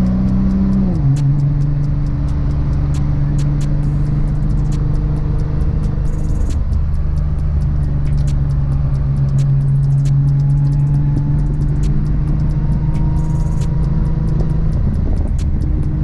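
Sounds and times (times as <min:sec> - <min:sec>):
car engine low drone: 0:00.0 - 0:16.0
light ticks: 0:00.0 - 0:16.0.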